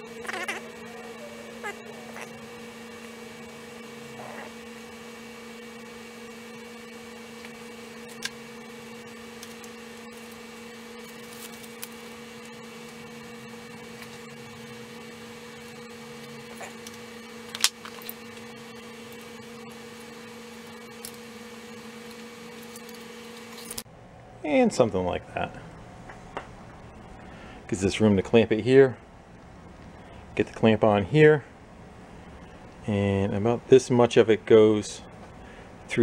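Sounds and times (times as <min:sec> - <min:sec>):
electrical hum: 0:00.0 - 0:36.0
high whine: 0:00.0 - 0:36.0.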